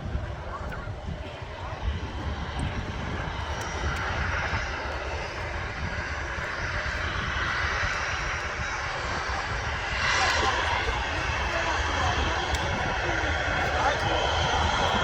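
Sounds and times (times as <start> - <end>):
jet airliner engines running: 0.0 - 15.0.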